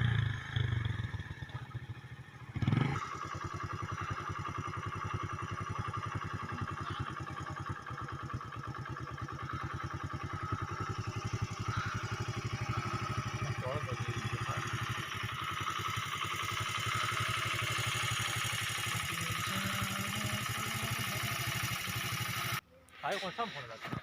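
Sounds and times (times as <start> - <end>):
engine running with fast pulse: 0.0 - 22.6.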